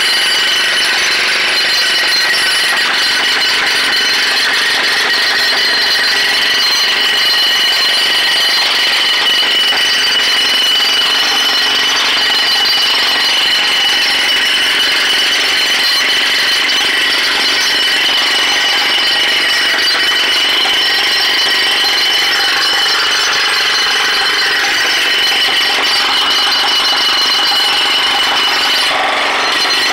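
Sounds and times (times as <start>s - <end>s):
jackhammer hammering concrete: 0.0s - 29.9s.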